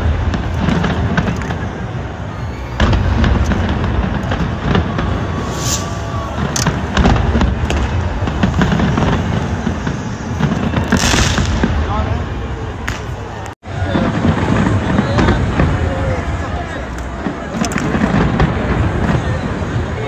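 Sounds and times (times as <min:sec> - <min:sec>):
fireworks booming and crackling: 0:00.0 - 0:20.0.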